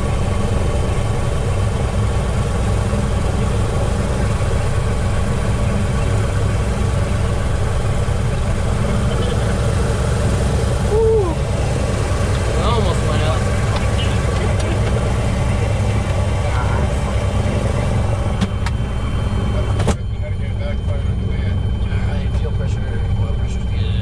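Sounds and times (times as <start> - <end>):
piston engine running: 0.0 - 24.0.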